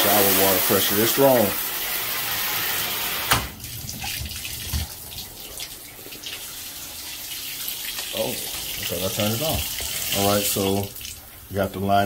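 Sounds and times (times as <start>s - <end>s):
shower spraying: 0.0s - 11.2s.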